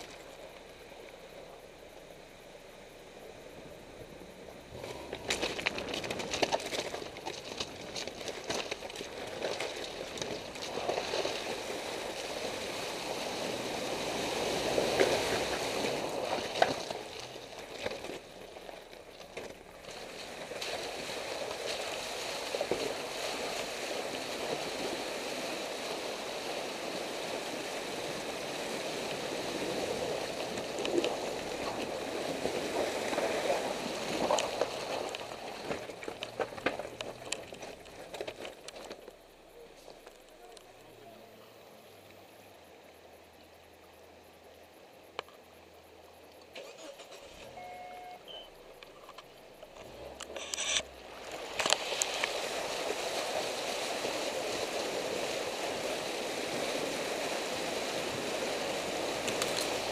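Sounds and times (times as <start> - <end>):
water splashing around tyres: 0.0 - 40.7, 46.5 - 59.9.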